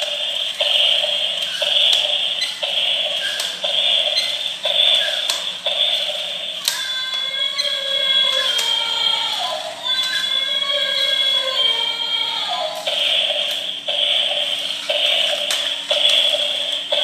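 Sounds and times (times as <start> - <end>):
buzzy pulsing electronic noise: 0.0 - 17.0
steady electronic tones: 0.0 - 17.0
toy mechanism clicking: 0.0 - 17.0.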